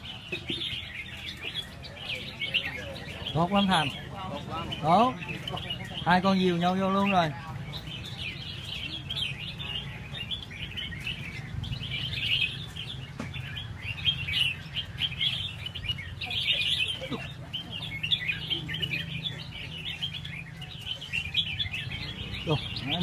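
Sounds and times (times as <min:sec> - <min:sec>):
birds chirping and warbling: 0:00.0 - 0:23.0.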